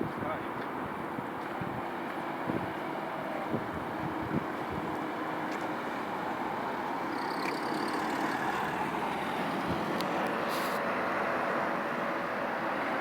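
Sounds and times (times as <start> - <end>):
vehicle rumble: 1.5 - 13.0.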